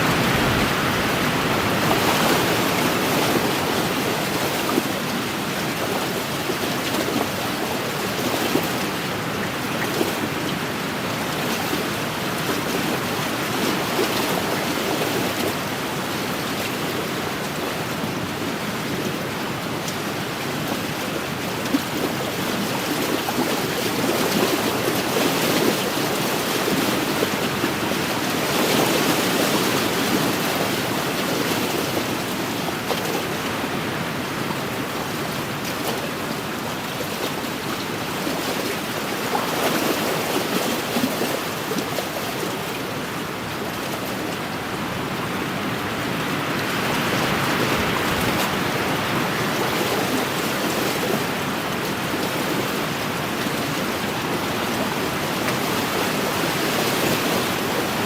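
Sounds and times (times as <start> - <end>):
small waves lapping against shore: 0.0 - 58.0
steady wind: 0.0 - 58.0.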